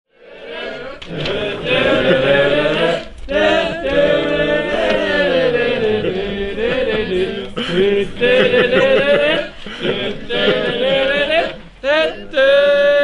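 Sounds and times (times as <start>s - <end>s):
voices singing long held notes: 0.1s - 13.0s.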